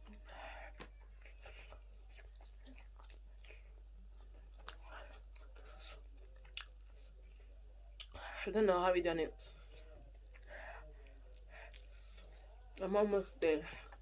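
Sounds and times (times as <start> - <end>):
person chewing: 0.0 - 8.2, 9.7 - 12.8.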